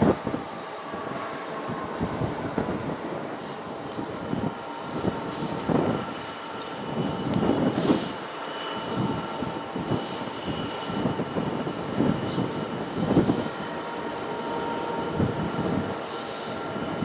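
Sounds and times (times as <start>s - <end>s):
train passing: 0.0s - 17.0s.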